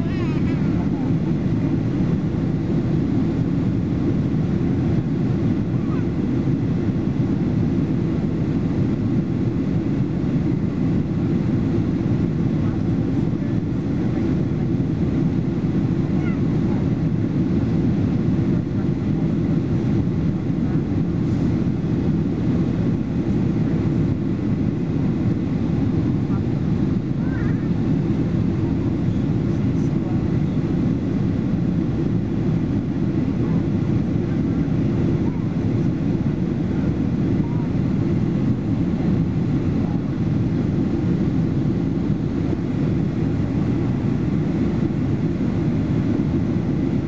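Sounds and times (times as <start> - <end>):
airliner cabin roar: 0.0 - 47.0.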